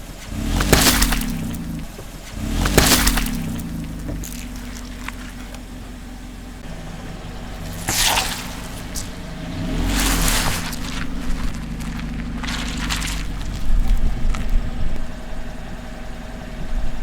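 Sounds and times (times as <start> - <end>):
objects crushing under tyres: 0.0 - 15.8
car engine idling: 0.0 - 17.0.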